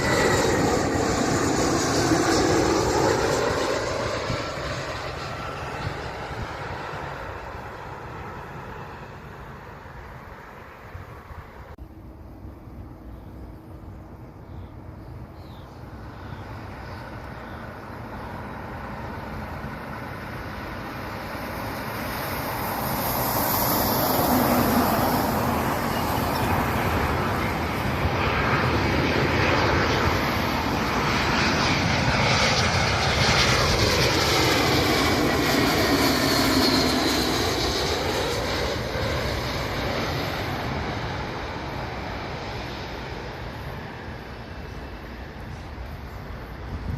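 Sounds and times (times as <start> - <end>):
airliner engine noise: 0.0 - 46.9
high jet whine: 0.0 - 46.9.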